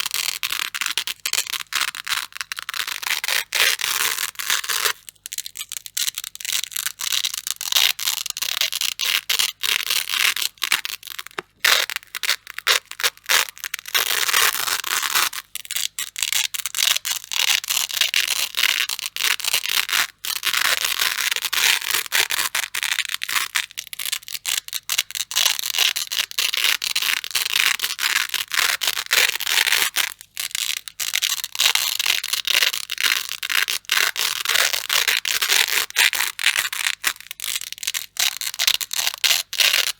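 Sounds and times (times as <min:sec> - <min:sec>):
hook-and-loop fastener ripping: 0:00.0 - 0:39.9.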